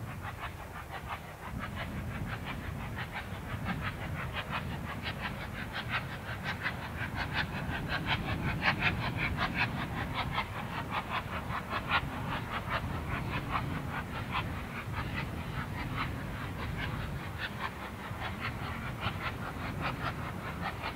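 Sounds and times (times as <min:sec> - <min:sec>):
steam locomotive exhaust beats: 0:00.0 - 0:20.9.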